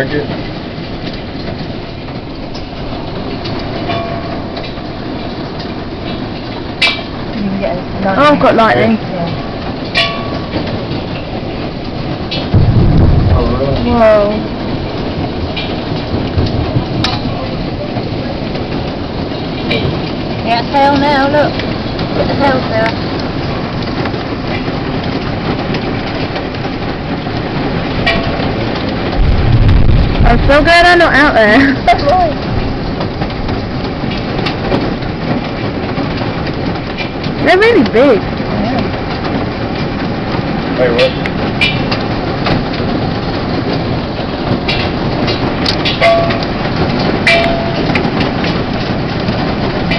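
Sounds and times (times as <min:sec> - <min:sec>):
hailstones striking: 0:00.0 - 0:49.9
heavy rain: 0:00.0 - 0:49.9
wind: 0:00.0 - 0:49.9.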